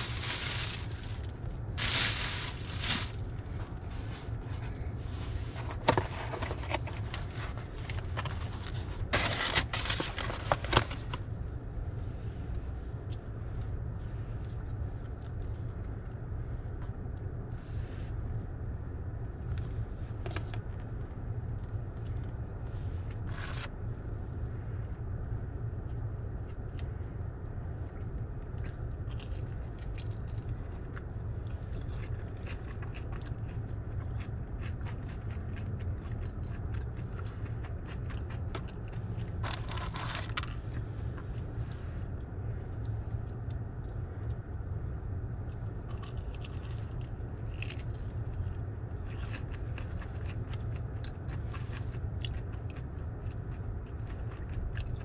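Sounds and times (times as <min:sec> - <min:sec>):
chewing and crunching fried food: 0:00.0 - 0:17.5, 0:19.3 - 0:55.0
steady low rumble: 0:00.0 - 0:55.0.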